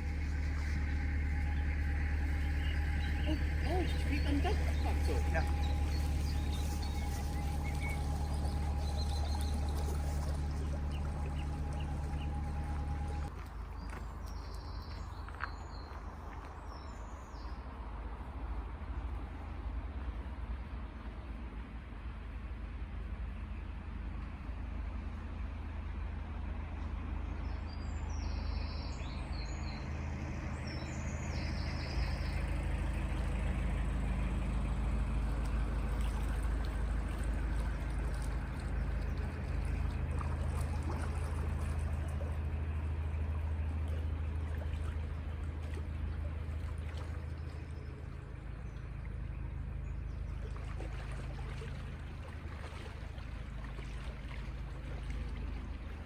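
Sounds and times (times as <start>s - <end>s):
diesel engine running: 0.0s - 16.4s, 17.8s - 56.0s
water churning along hull: 0.0s - 56.0s.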